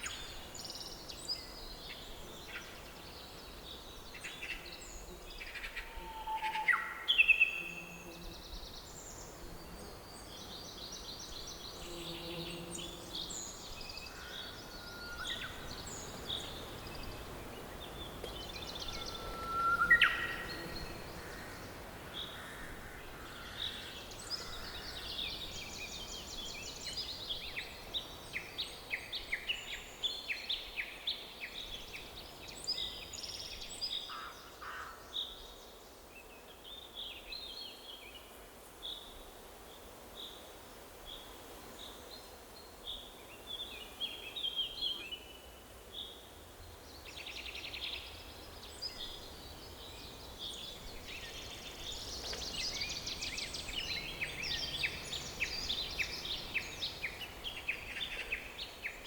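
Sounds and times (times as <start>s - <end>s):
songbirds singing and calling: 0.0s - 40.4s, 41.0s - 59.0s
forest ambience hiss: 0.0s - 59.0s.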